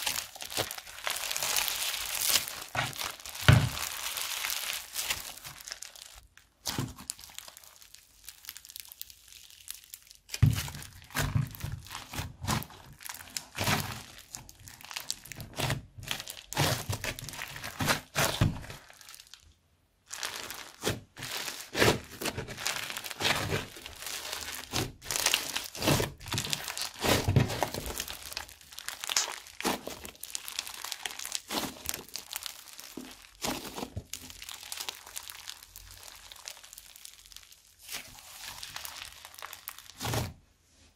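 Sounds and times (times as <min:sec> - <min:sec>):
slime crackling and popping: 0:00.0 - 0:40.4.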